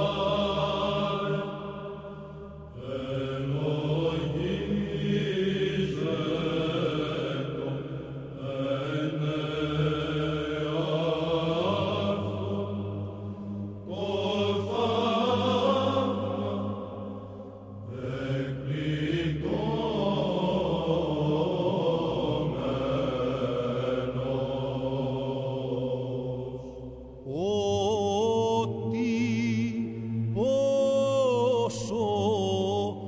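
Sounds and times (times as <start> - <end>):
monks chanting over a drone: 0.0 - 33.0.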